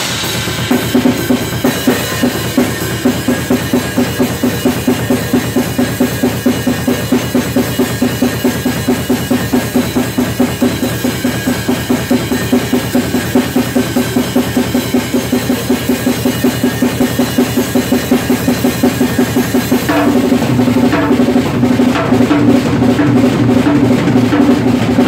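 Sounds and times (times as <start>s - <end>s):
acoustic drum kit playing: 0.0s - 25.0s.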